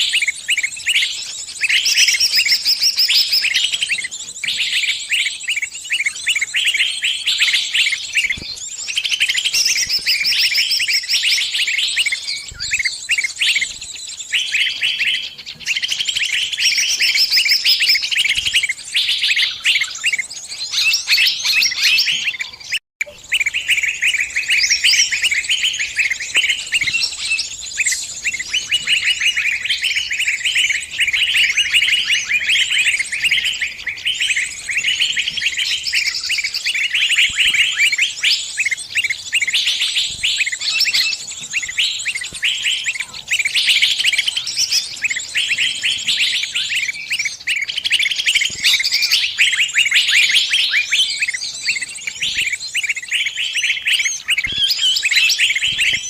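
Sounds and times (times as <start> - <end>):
small bird distress calls: 0.0 - 56.0.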